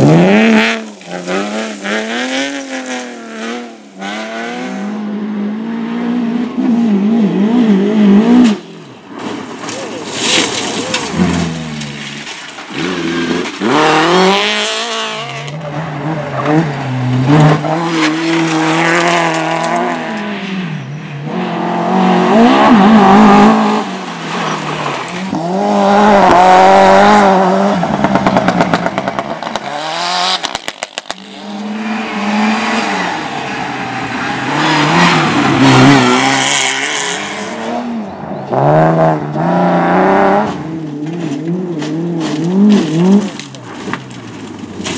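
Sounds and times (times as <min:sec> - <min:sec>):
rally car engines revving past: 0:00.0 - 0:44.9.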